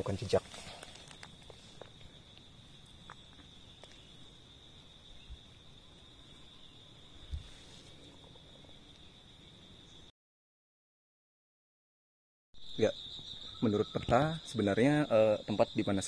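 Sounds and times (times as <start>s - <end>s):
high-pitched insect drone: 0.0s - 10.1s, 12.6s - 16.0s.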